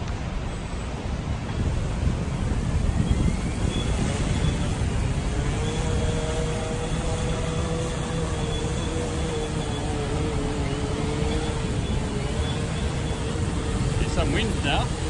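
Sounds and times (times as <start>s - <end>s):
wind rumble: 0.0s - 15.0s
drone propellers humming: 0.1s - 15.0s.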